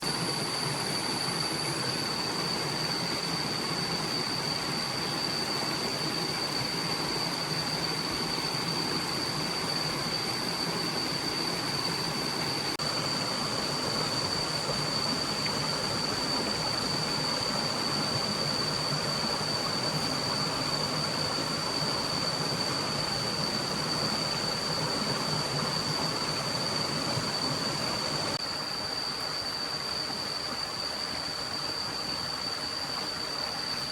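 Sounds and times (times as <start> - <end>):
forest stream rushing: 0.0 - 33.9
high-pitched whine: 0.0 - 33.9.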